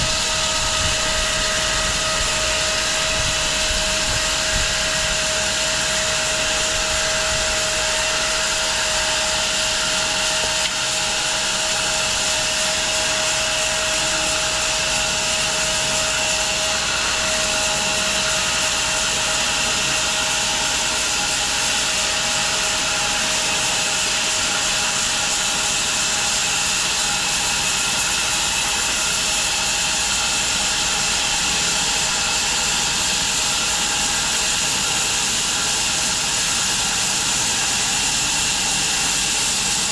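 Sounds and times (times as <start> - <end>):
bandsaw mill whirring: 0.0 - 39.9.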